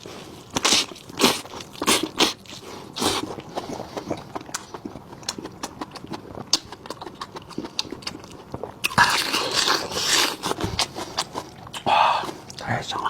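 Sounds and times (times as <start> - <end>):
wet chewing and mouth smacks: 0.0 - 12.7.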